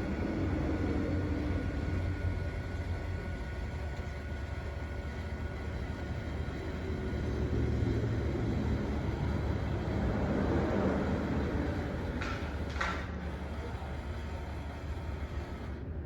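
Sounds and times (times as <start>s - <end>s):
faint motor whine: 0.0s - 16.0s
toy machines mechanical rumble: 0.0s - 16.0s.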